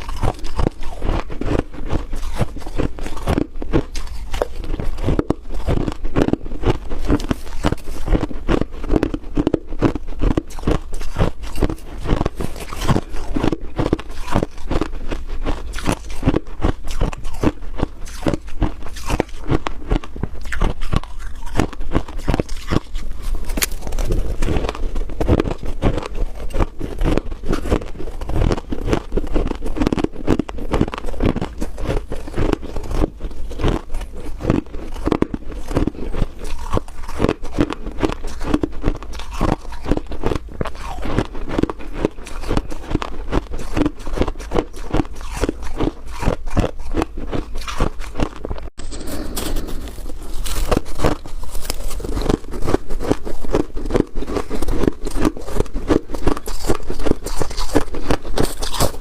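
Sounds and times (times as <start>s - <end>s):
chewing crisp frost: 0.0s - 59.0s.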